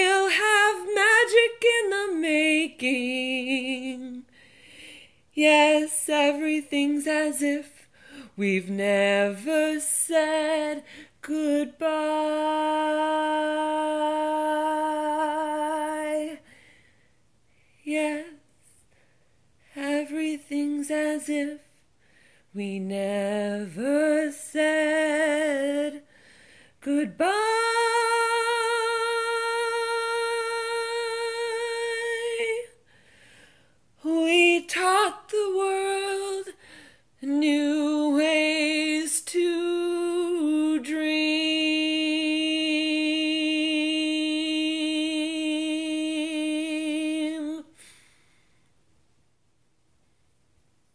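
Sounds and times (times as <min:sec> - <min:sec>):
woman singing unaccompanied: 0:00.0 - 0:04.3, 0:05.3 - 0:16.5, 0:17.8 - 0:18.5, 0:19.7 - 0:21.7, 0:22.5 - 0:26.1, 0:26.8 - 0:32.8, 0:34.0 - 0:36.6, 0:37.2 - 0:47.8.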